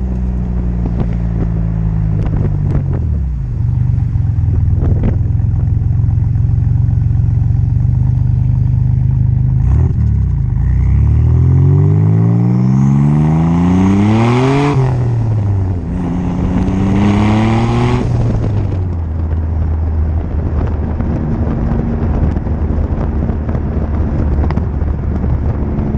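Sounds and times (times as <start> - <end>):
car engine idling and revving: 0.0 - 25.9.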